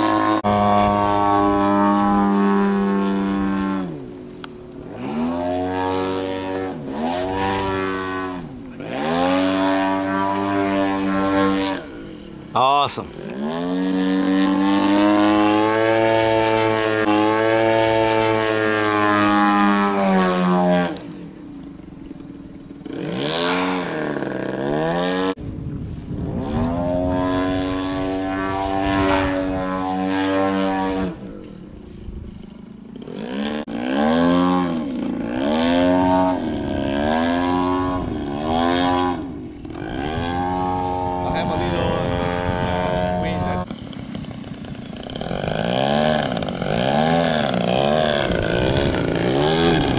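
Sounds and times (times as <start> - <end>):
model airplane engine: 0.0 - 49.9.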